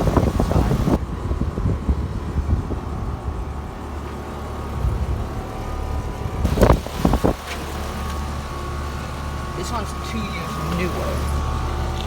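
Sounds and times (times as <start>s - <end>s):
air conditioner units humming: 0.0s - 12.0s.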